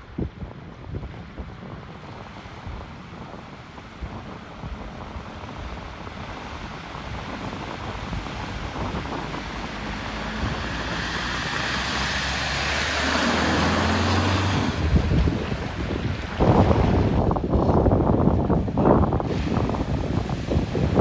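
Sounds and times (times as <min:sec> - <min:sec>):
water rushing: 0:02.4 - 0:21.0
vehicle engine: 0:03.6 - 0:21.0.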